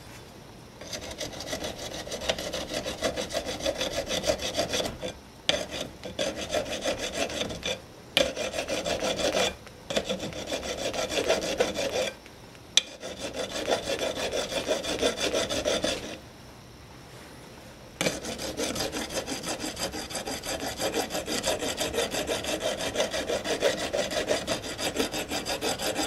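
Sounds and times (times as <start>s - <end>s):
hand file rasping on metal: 0.8s - 12.2s, 12.8s - 16.2s, 18.0s - 26.0s.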